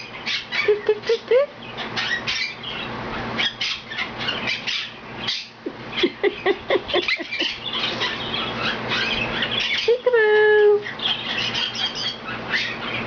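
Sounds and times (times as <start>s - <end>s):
parrot chattering: 0.0s - 13.0s.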